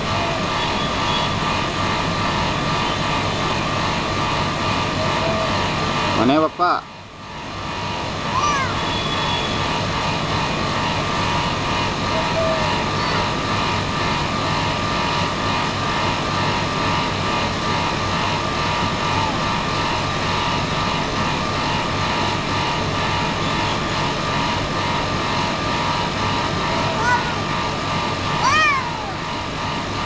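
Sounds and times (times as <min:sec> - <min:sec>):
steady machine drone: 0:00.0 - 0:30.0.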